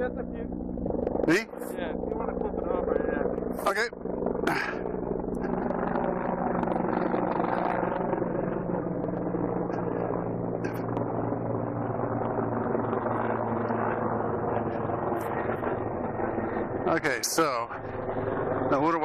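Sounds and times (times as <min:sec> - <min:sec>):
low engine-like drone: 0:00.0 - 0:19.0.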